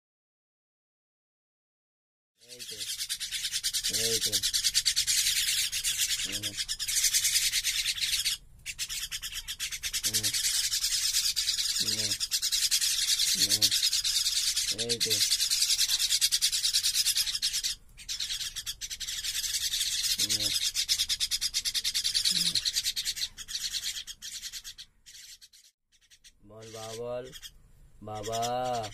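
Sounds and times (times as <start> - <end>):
young birds begging calls: 2.4 - 28.9.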